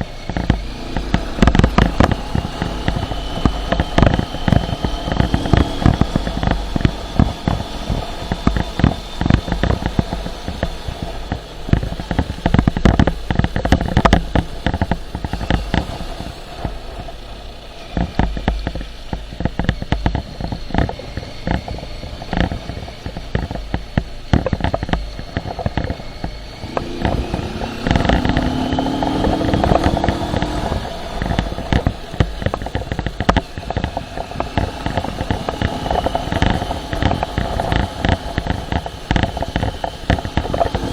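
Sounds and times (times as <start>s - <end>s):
motorcycle engine: 0.0s - 40.9s
wind buffeting microphone: 0.0s - 40.9s.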